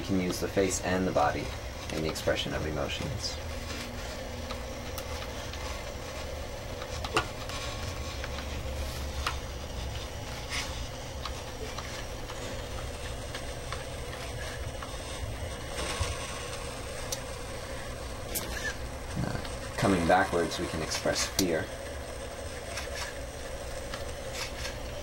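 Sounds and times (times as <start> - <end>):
robot motors humming: 0.0 - 25.0.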